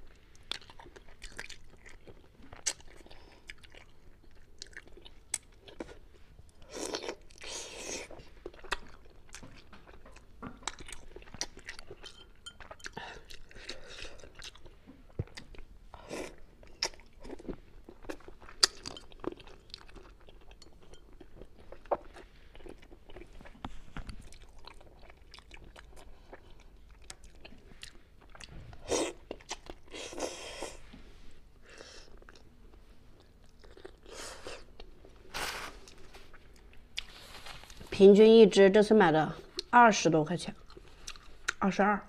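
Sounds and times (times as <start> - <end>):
close chewing and crunching: 0.0 - 30.8, 31.7 - 37.9, 40.4 - 41.8.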